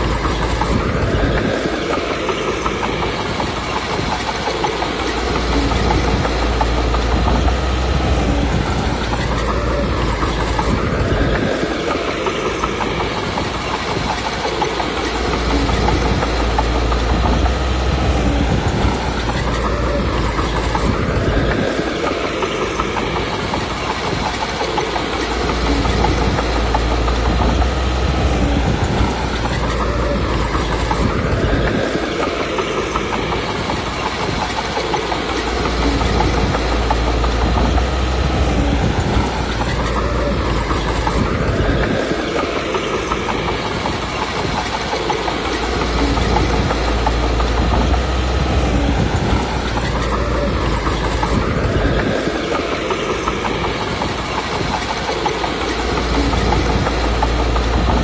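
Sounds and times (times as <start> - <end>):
bulldozer diesel engine under load: 0.0 - 58.0
steel tracks clattering: 0.0 - 58.0.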